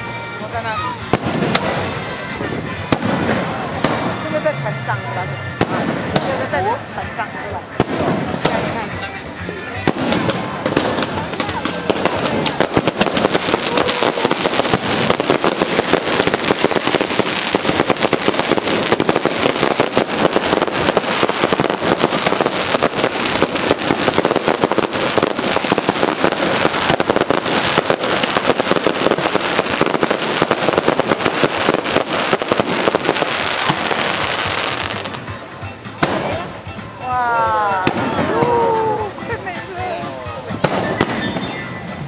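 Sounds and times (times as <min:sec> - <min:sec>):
fireworks crackling and popping: 0:00.0 - 0:42.0.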